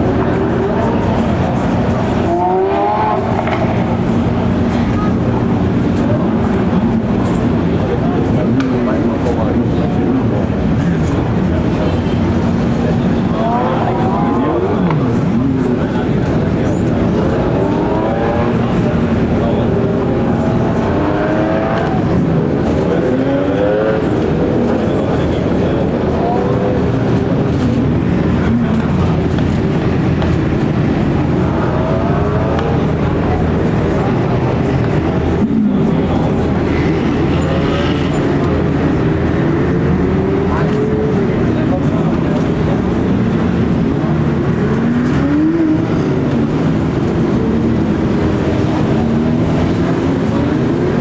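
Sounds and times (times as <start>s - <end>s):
sports car engines revving: 0.0s - 51.0s.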